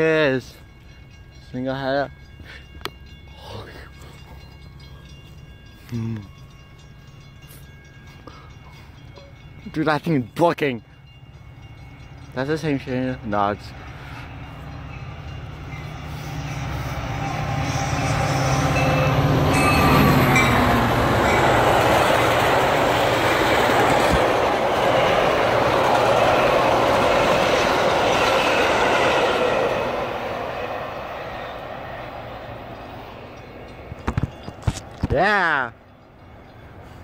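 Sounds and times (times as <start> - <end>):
diesel locomotive engine: 0.0 - 37.0
train wheels rumbling on rails: 0.0 - 37.0.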